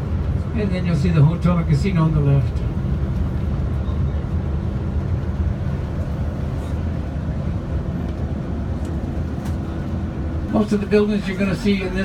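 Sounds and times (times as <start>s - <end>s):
coach engine and road rumble: 0.0s - 12.0s.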